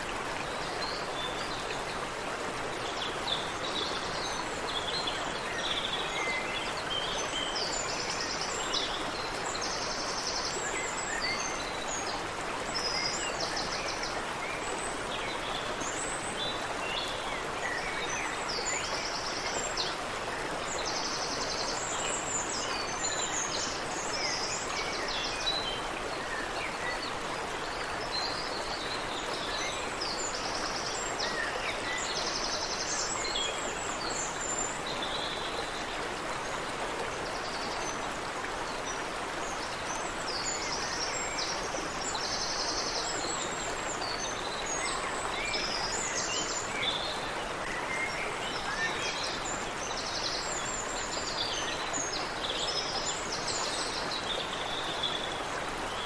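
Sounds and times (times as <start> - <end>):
stream over small waterfall: 0.0 - 56.0.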